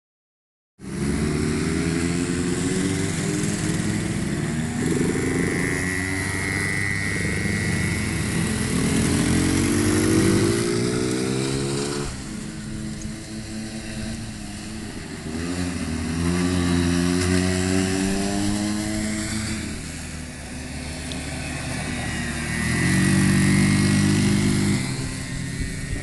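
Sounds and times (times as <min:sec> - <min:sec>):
atv engine running: 0:00.8 - 0:26.0
high whine: 0:00.8 - 0:26.0.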